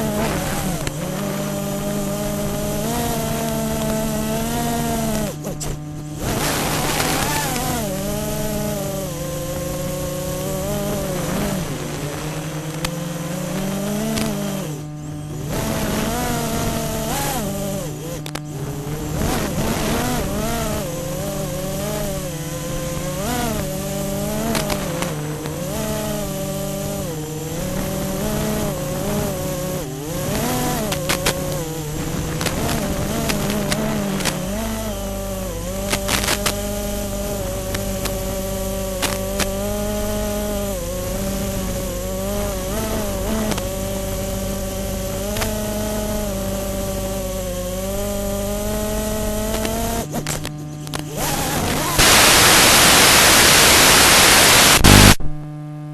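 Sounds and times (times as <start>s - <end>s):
quadcopter motors buzzing whine: 0.0s - 55.9s.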